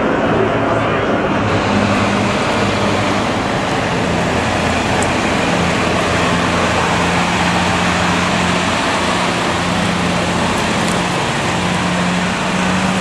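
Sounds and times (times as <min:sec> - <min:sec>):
armoured vehicle engine drone: 0:00.0 - 0:13.0.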